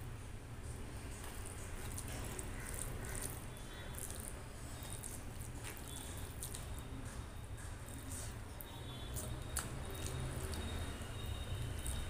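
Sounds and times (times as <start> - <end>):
fingers squishing wet rice: 1.0 - 12.0
small sticky clicks: 1.2 - 12.0.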